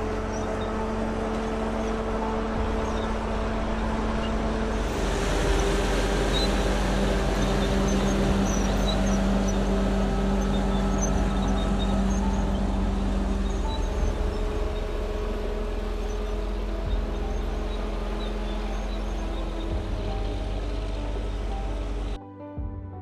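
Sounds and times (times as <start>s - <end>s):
heavy machine engine running: 0.0s - 22.2s.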